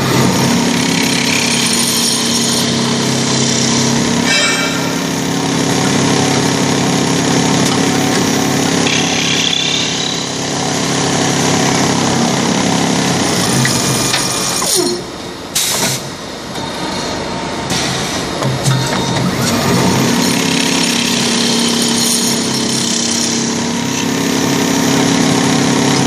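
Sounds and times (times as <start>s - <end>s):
motor hum: 0.0s - 15.0s, 17.9s - 26.0s
lathe cutters turning wood: 0.0s - 15.1s, 18.3s - 26.0s.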